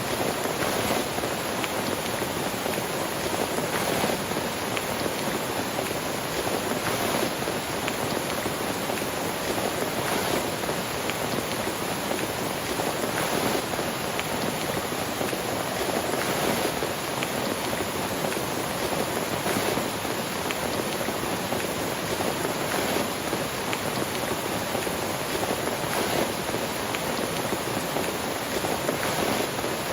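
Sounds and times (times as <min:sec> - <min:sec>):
heavy rain falling: 0:00.0 - 0:29.9.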